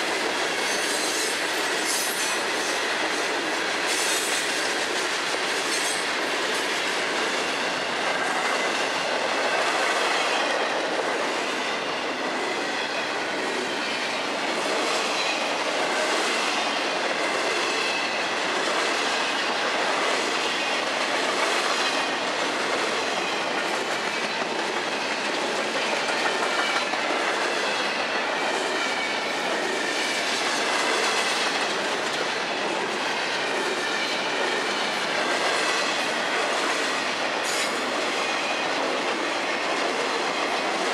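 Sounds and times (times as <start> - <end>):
steel wheels rolling on rails: 0.0 - 40.9.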